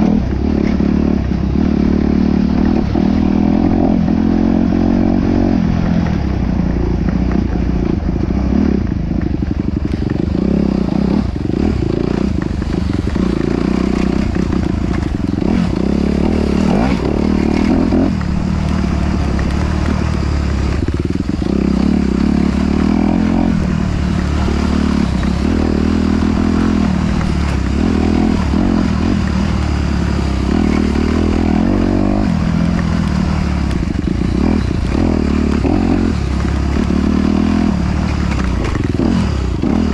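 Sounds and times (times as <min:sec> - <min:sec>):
off-road vehicle engine: 0:00.0 - 0:39.9
vehicle rattling and knocking: 0:00.0 - 0:39.9.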